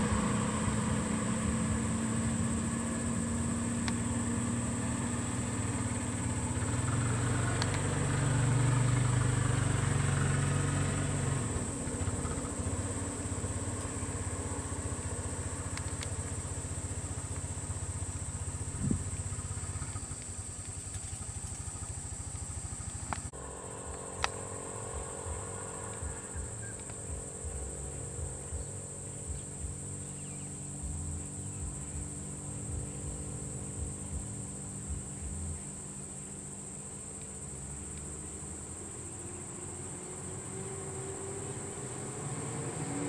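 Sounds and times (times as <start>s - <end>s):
high-pitched insect drone: 0.0s - 43.0s
vehicle engines idling: 0.0s - 43.0s.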